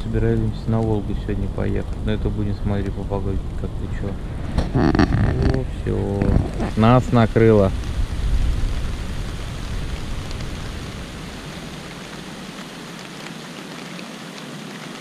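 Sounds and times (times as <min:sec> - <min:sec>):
low rumble: 0:00.0 - 0:13.1
rain falling: 0:00.0 - 0:15.0.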